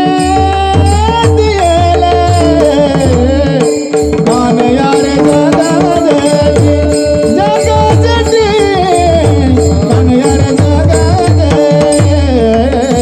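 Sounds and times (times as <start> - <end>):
ornamented sung melody: 0.0 - 13.0.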